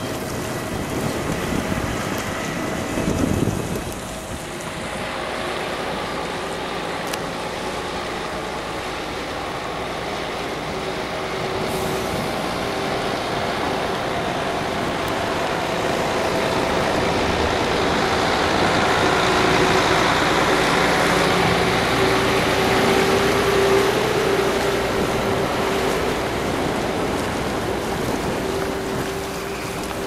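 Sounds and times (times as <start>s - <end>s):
constant whine: 0.0s - 30.0s
truck engine and tyres on asphalt: 0.0s - 30.0s.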